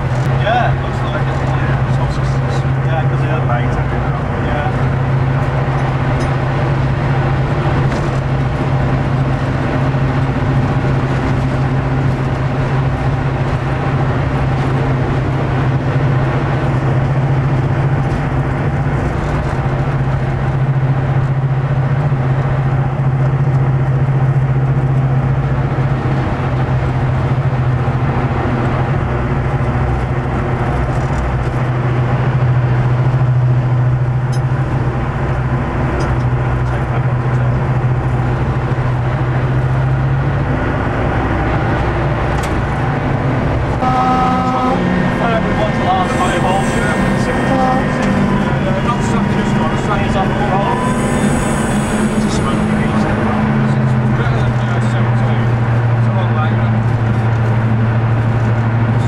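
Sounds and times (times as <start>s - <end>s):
diesel locomotive engine droning: 0.0s - 59.0s.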